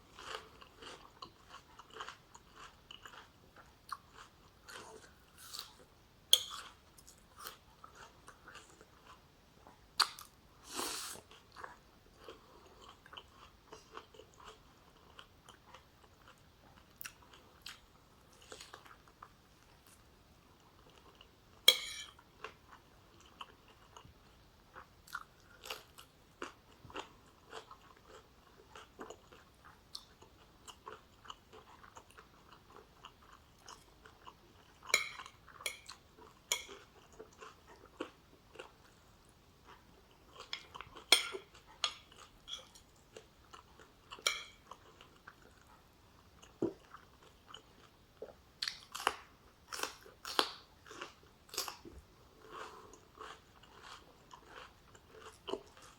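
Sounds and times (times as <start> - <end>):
chewing with crunches: 0.1 - 55.9.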